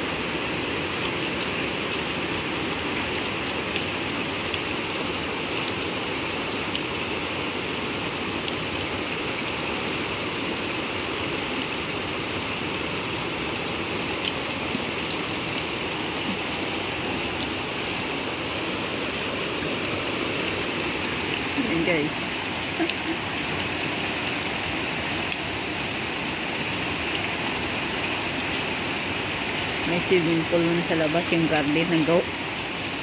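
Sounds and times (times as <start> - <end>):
rain splashing into standing water: 0.0 - 33.0.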